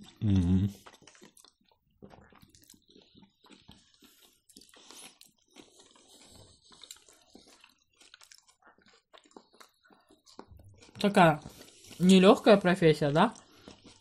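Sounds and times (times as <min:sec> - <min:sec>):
close chewing with wet clicks: 0:00.0 - 0:14.0.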